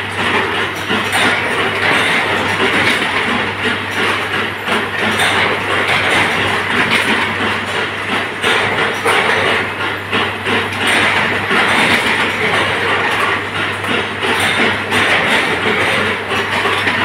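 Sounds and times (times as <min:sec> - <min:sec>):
machinery rattling and clattering: 0:00.0 - 0:17.0.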